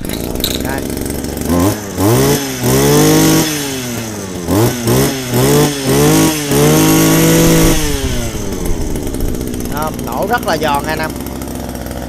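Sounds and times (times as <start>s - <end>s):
small gasoline engine revving: 0.0s - 12.0s.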